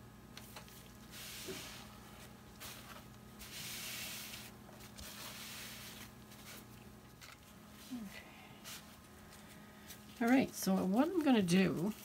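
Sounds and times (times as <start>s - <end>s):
paper towels rustling: 0.6s - 12.0s.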